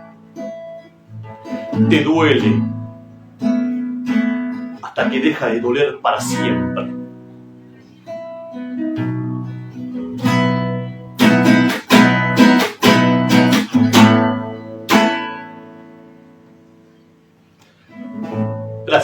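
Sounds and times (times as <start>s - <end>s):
guitar picked notes and chords: 0.0s - 19.0s.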